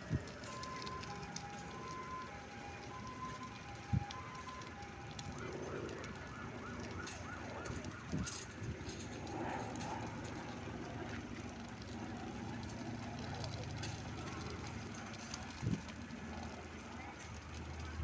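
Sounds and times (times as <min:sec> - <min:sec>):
distant two-tone siren: 0:00.0 - 0:18.0
dry grass burning: 0:00.0 - 0:18.0
fire crackling and popping: 0:00.0 - 0:18.0.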